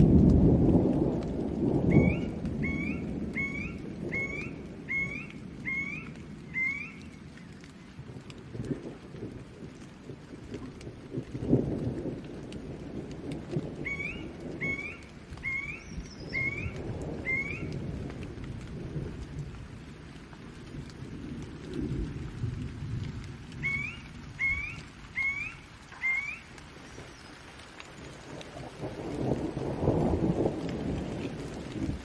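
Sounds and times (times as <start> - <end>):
low rolling thunder: 0.0 - 7.2, 8.0 - 26.2, 28.0 - 32.0
steady rain: 0.0 - 32.0.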